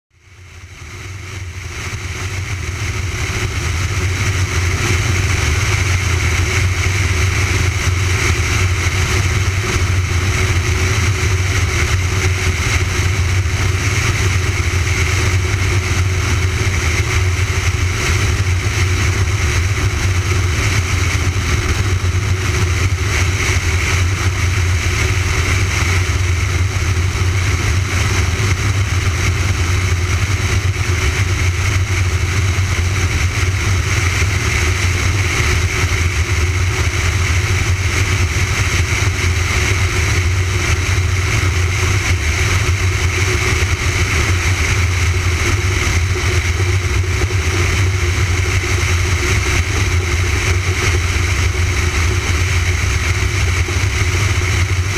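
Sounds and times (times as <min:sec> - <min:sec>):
aircraft engine droning: 0:00.2 - 0:54.9
wind rushing over camera: 0:00.3 - 0:54.9.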